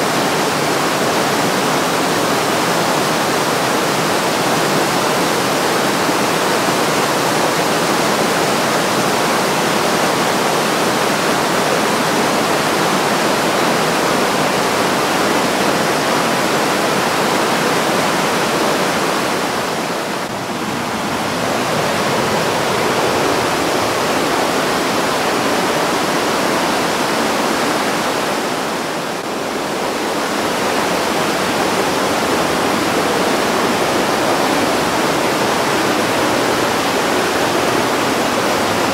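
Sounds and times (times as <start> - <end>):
river rushing over boulders: 0.0 - 38.9.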